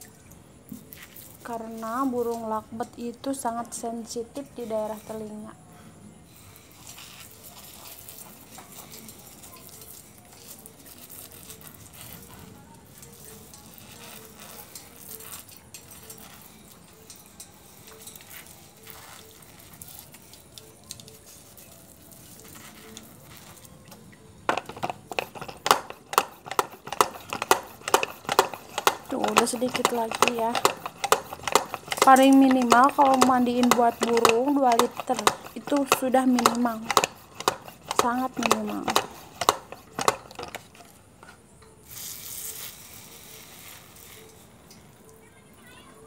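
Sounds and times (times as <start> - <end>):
water spray hissing and pattering: 0.0 - 5.5, 6.3 - 45.3.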